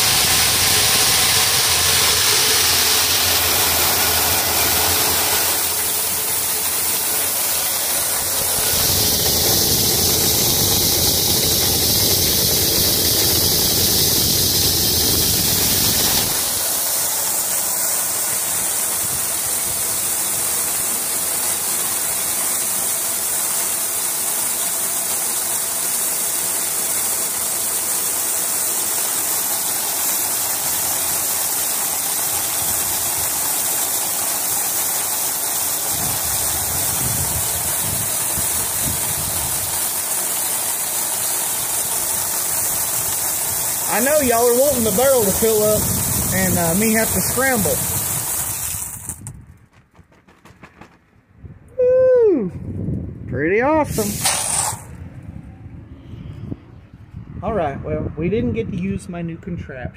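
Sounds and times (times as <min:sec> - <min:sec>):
corn kernels pouring into barrel: 0:00.0 - 0:49.3, 0:53.9 - 0:54.9.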